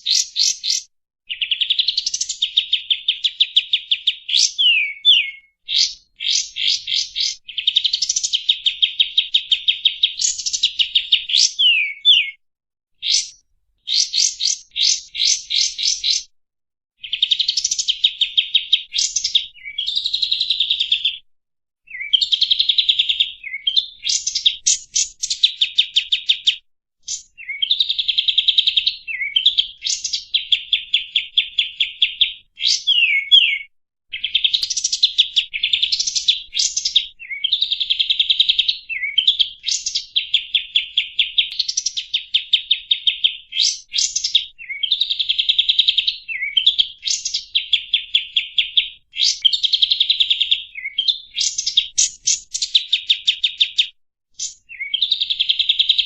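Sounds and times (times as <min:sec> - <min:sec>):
songbird singing fast trills: 0:00.0 - 0:12.4, 0:13.0 - 0:16.3, 0:17.0 - 0:21.2, 0:21.9 - 0:56.0.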